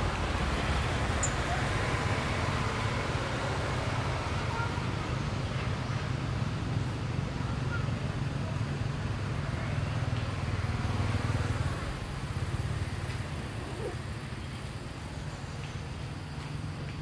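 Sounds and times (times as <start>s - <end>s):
motor vehicle engine rumble: 0.0s - 16.9s.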